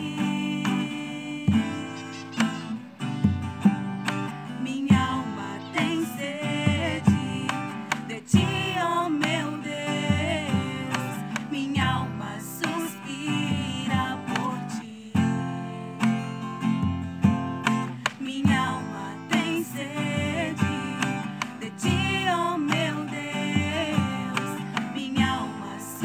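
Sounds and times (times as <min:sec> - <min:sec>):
young female voices singing: 0:00.0 - 0:02.9, 0:04.2 - 0:16.0, 0:17.9 - 0:26.0
acoustic guitar strumming: 0:00.0 - 0:26.0.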